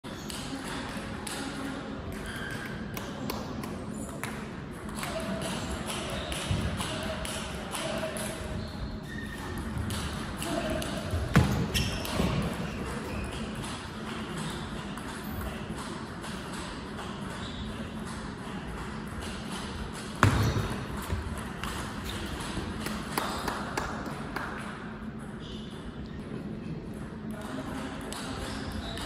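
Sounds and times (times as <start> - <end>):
table tennis ball on bats and table: 0.2 - 26.1, 26.9 - 29.0.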